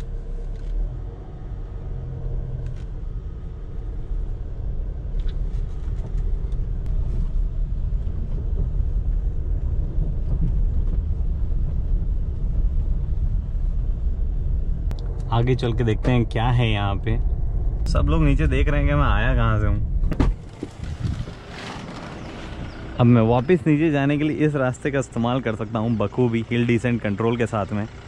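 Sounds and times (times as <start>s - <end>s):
engine and tyres rumbling: 0.0s - 28.0s.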